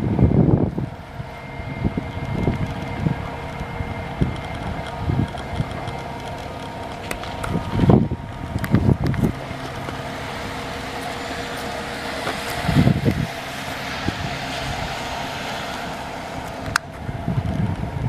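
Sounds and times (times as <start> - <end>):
pile hammer machinery humming: 0.0 - 18.0
wind gusts on microphone: 0.0 - 18.0.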